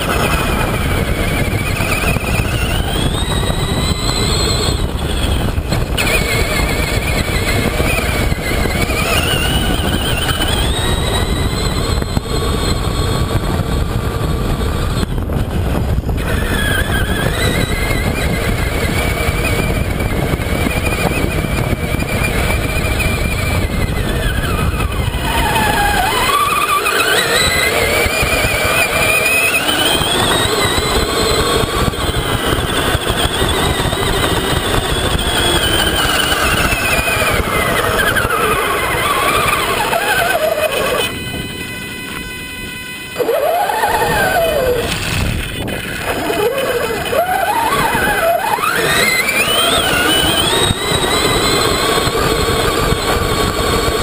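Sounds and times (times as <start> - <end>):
rc truck electric motor whining: 0.0 - 54.0
steady low rush: 0.0 - 54.0.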